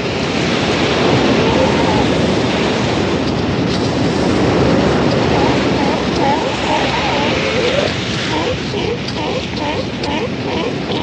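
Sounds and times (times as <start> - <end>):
waves breaking: 0.0 - 11.0
wind buffeting microphone: 0.0 - 11.0.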